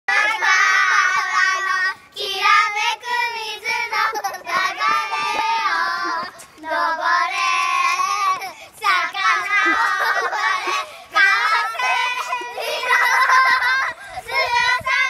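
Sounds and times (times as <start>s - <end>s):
young children singing: 0.1s - 15.0s.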